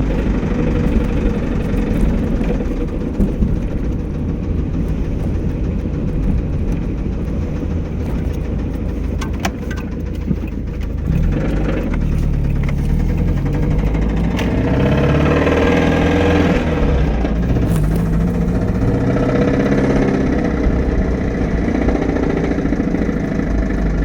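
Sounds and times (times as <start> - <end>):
car engine knocking and revving: 0.0 - 24.0.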